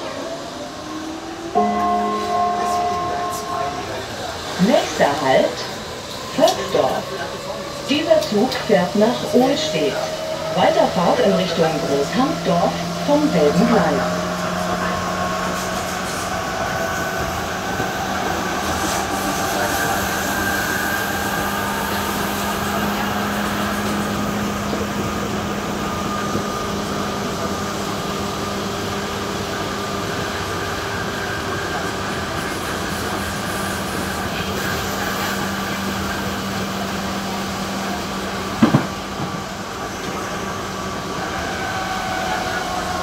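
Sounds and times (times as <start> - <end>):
train wheels on rails: 0.0 - 43.0.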